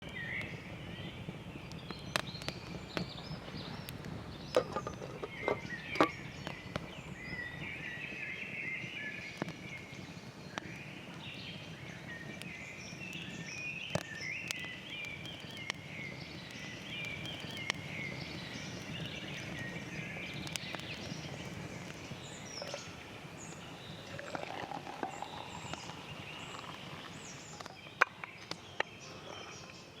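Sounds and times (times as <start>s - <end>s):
woodland birds singing: 0.0s - 30.0s.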